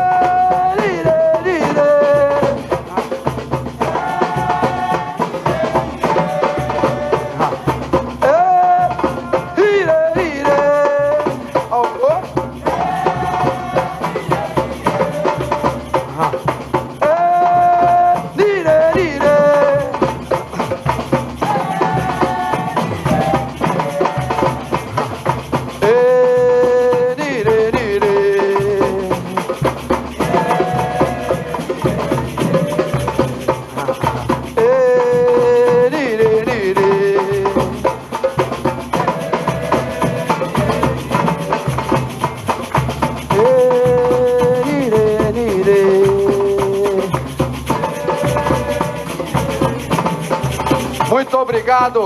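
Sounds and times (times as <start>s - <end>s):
drums and shakers rhythm: 0.0s - 52.0s.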